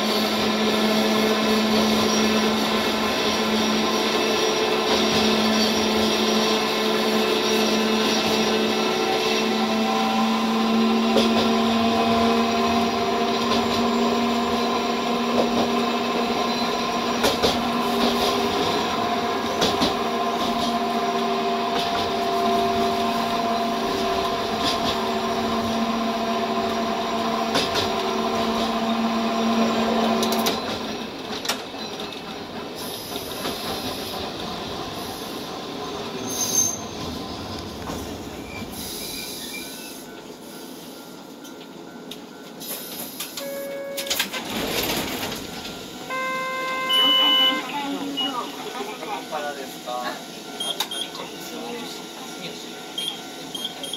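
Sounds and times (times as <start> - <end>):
streetcar running gear whine: 0.0 - 53.9.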